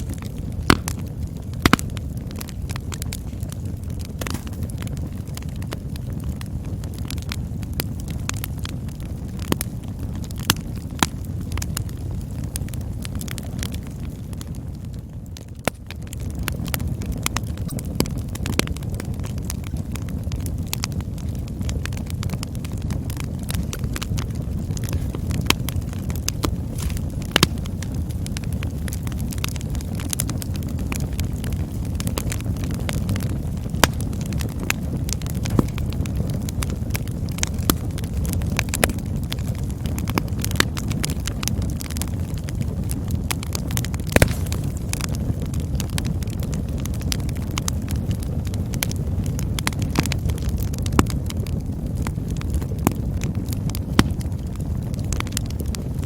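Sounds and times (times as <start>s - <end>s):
campfire crackling and popping: 0.0s - 56.0s
campfire flames rumbling: 0.0s - 56.0s.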